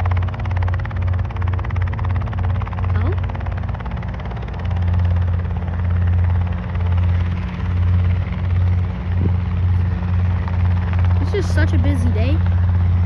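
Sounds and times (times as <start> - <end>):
helicopter droning: 0.0 - 13.0.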